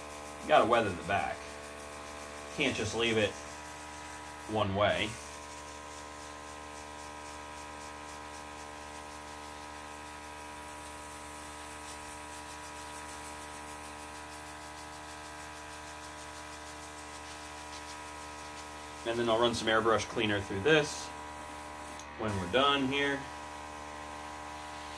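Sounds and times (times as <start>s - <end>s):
airbrush air hissing: 0.0s - 24.9s
small compressor humming: 0.0s - 24.9s.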